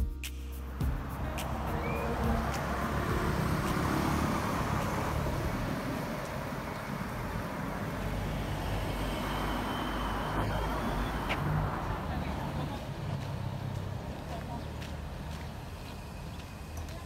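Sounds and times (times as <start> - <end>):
steady traffic noise: 0.0 - 17.0
car passing close by: 0.6 - 17.0.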